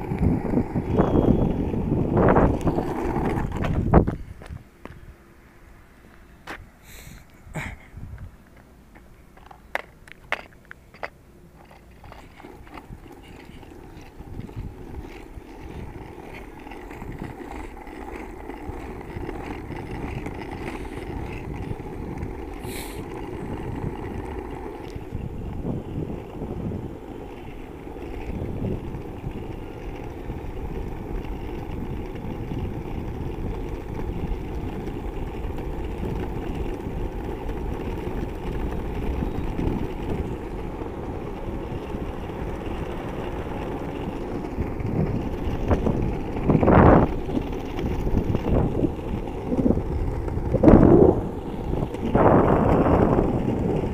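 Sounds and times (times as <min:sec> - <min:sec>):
caster wheels rolling over asphalt: 0:00.0 - 0:53.9.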